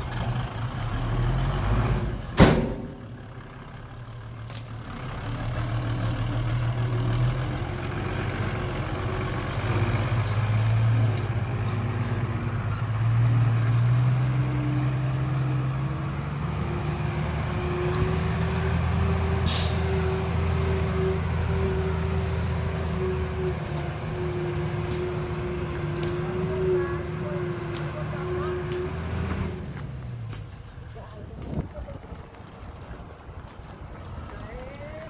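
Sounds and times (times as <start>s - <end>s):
heavy diesel engine under load: 0.0s - 35.0s.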